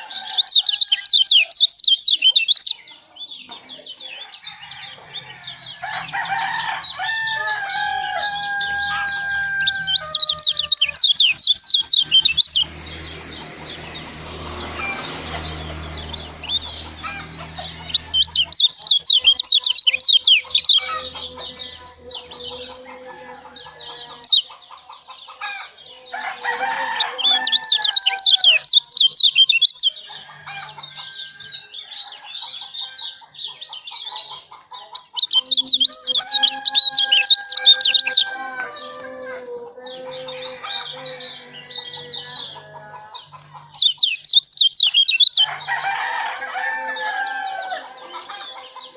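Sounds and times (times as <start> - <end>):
songbird chirping trills: 0.0 - 48.9.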